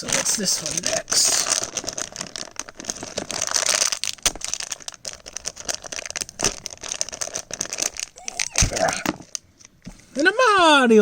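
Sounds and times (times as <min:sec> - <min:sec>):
plastic packaging crinkling and tearing: 0:00.0 - 0:09.8.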